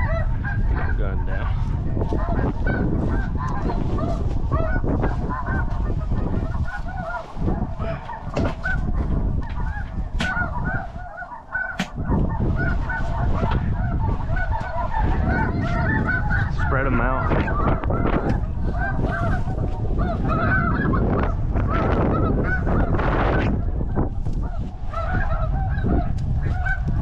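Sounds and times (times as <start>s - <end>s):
snow geese yelping: 0.0s - 27.0s.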